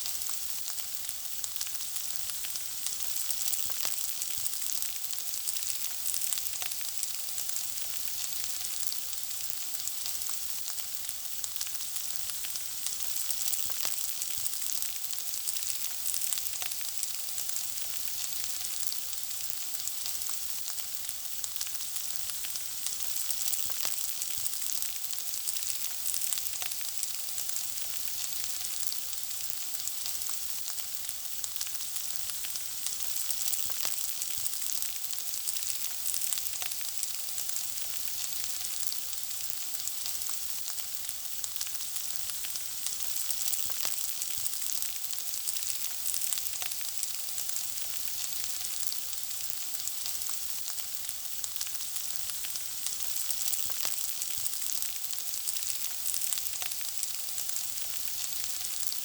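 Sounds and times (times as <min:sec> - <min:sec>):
food frying sizzle: 0:00.0 - 0:59.0
crackles and pops: 0:09.5 - 0:59.0.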